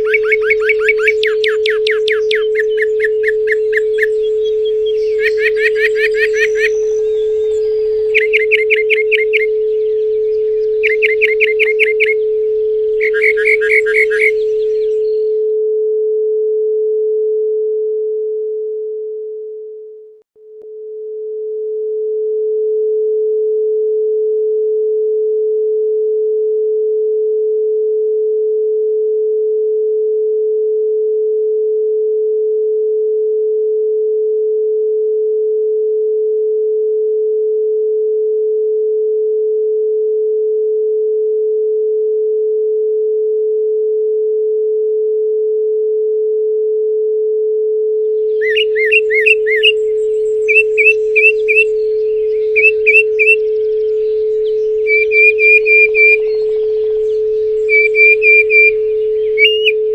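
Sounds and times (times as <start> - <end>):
pure sine tone: 0.0 - 59.9.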